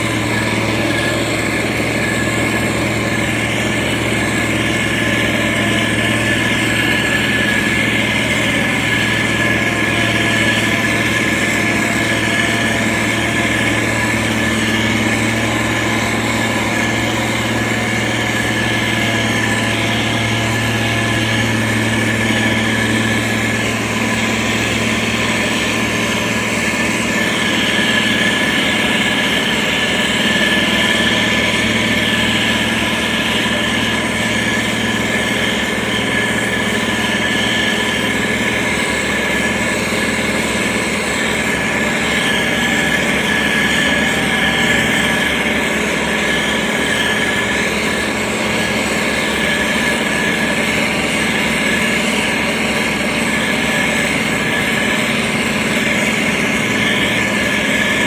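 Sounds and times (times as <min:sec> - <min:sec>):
diesel engine running: 0:00.0 - 0:58.0
high whine: 0:00.0 - 0:58.0.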